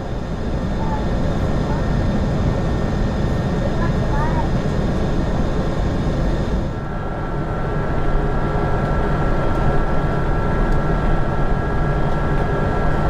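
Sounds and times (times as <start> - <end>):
airliner cabin rumble and air rush: 0.0 - 13.0.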